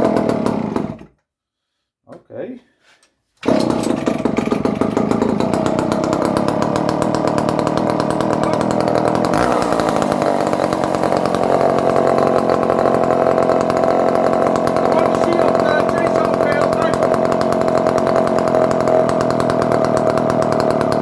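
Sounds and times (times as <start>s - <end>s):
chainsaw running: 0.0s - 1.1s, 3.4s - 21.0s.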